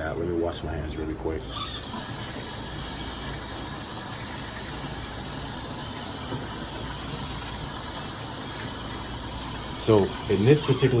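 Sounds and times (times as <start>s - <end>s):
faucet water running: 1.2s - 11.0s.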